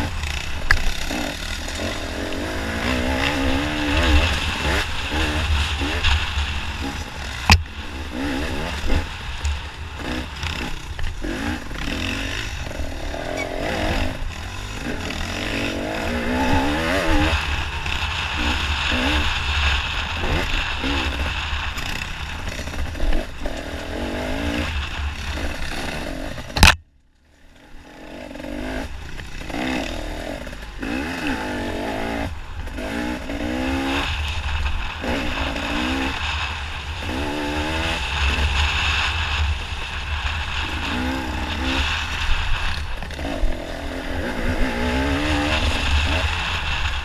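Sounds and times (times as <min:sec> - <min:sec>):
dirt bike engine revving: 0:00.0 - 0:26.8, 0:27.5 - 0:47.0.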